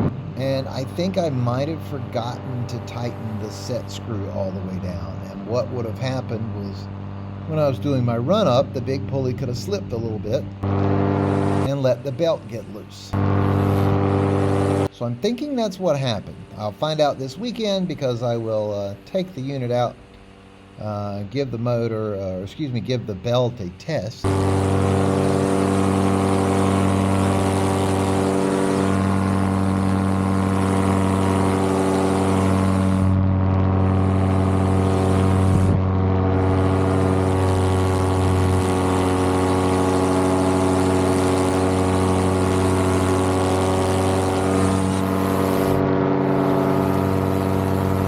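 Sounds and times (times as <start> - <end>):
paramotor engine running: 0.0 - 21.3, 24.2 - 48.0.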